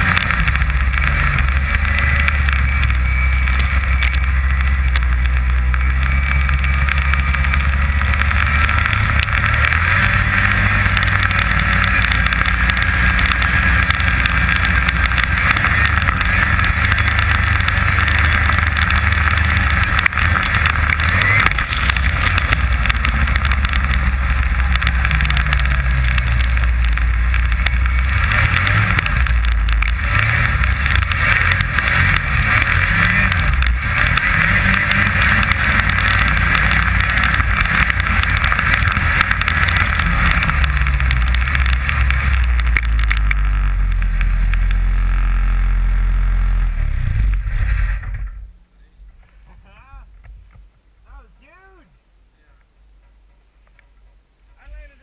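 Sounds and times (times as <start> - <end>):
snowmobile engine running: 0.0 - 50.1.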